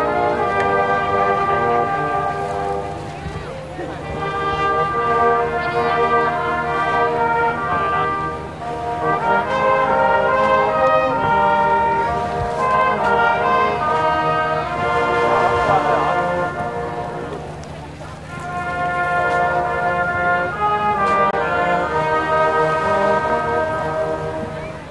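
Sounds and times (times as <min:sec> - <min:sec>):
brass band playing slow tune: 0:00.0 - 0:24.9.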